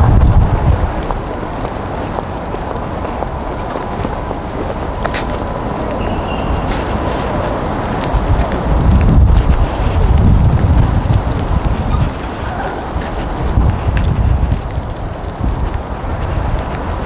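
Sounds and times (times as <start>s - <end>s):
urban background noise: 0.0s - 17.0s
wind buffeting microphone: 0.0s - 17.0s.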